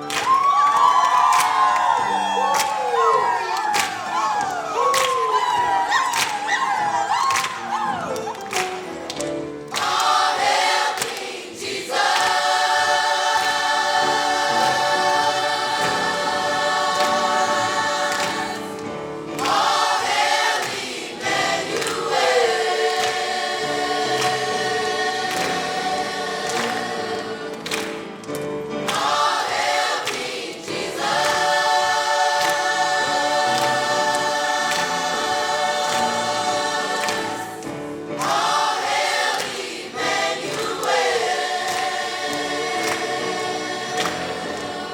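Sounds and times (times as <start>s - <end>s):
choir singing: 0.0s - 44.9s.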